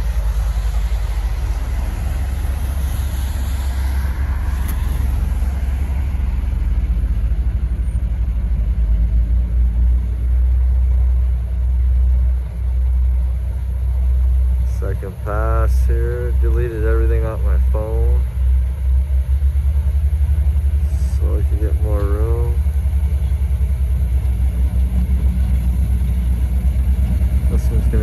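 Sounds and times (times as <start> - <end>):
heavy machine engine rumble: 0.0 - 28.0
passing road traffic: 0.0 - 28.0.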